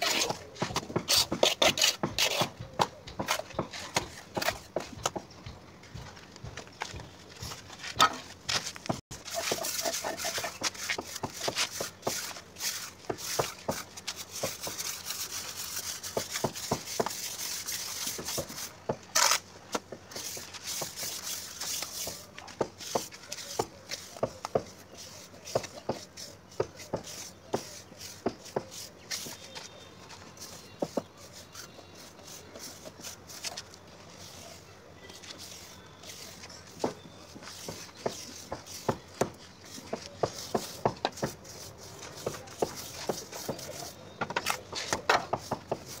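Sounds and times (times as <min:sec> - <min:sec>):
trowel scraping plaster on wall: 0:00.0 - 0:04.8, 0:09.1 - 0:46.0.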